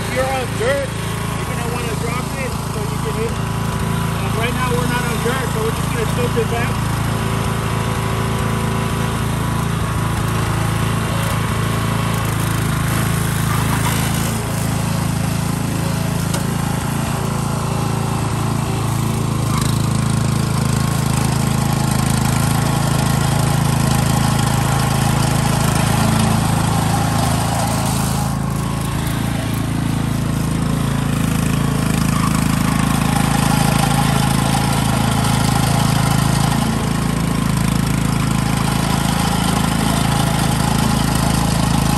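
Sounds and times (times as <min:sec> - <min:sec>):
gasoline engine running: 0:00.0 - 0:41.9.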